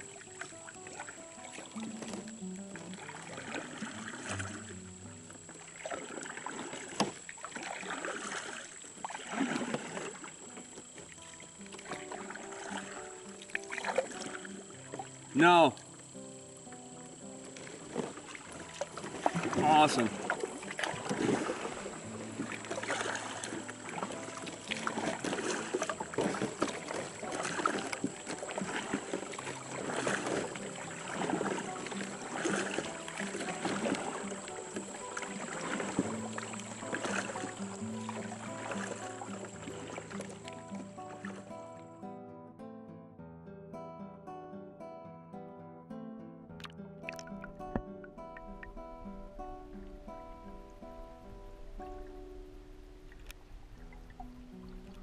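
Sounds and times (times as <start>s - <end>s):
paddle splashing through water: 0.0s - 41.9s, 46.6s - 55.0s.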